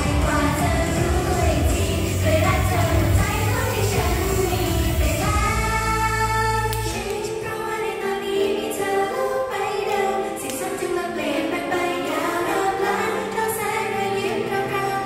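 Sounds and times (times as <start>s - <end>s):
pop song with female voices: 0.0s - 15.0s.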